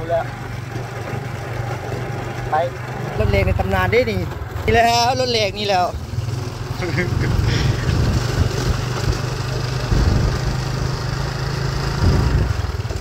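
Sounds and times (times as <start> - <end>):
motorcycle engines running: 0.0 - 13.0
wind and road noise: 0.0 - 13.0.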